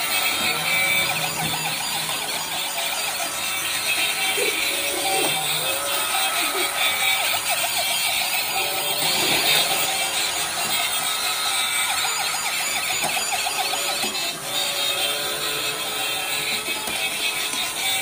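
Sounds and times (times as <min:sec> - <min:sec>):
toy siren yelping: 0:00.0 - 0:18.0.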